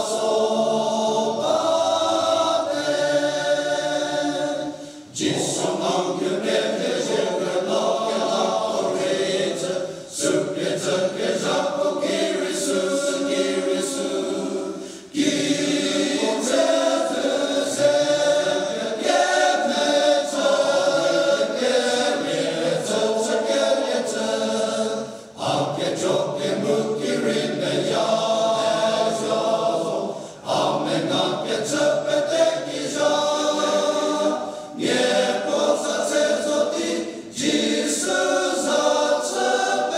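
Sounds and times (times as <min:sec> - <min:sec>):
men's choir singing: 0:00.0 - 0:39.9.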